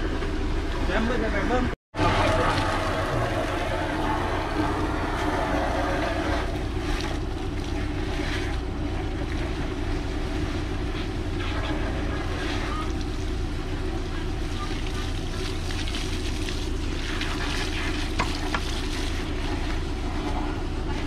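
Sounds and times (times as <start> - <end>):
pump engine droning: 0.0 - 21.0.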